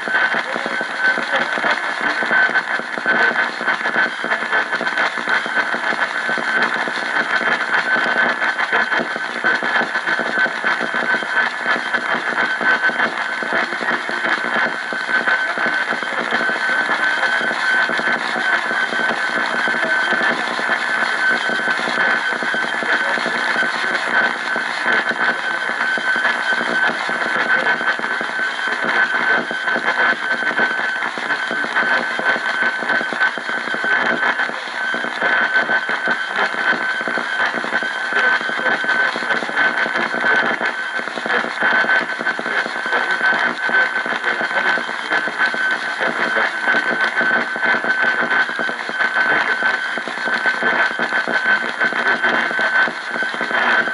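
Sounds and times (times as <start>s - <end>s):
radio static crackling: 0.0s - 53.9s
steady high whine: 0.0s - 53.9s.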